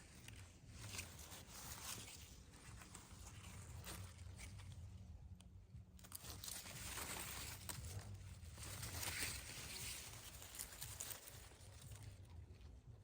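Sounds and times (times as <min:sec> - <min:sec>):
leaves and branches rustling: 0:00.0 - 0:13.0.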